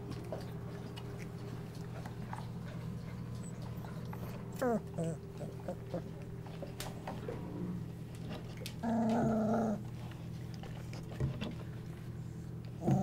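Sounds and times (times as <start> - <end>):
puppy growling: 0.0 - 11.6, 12.7 - 13.0.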